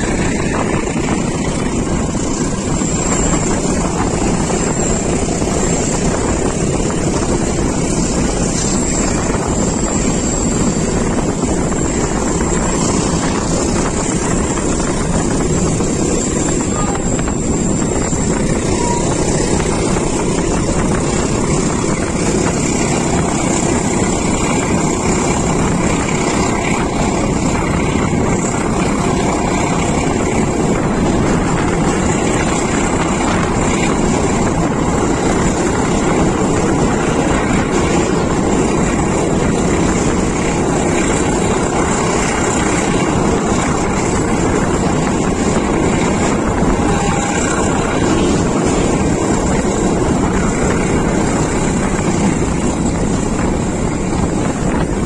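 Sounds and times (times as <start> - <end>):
train wheels rumbling on rails: 0.0 - 55.0
wind rushing over microphone: 0.0 - 55.0.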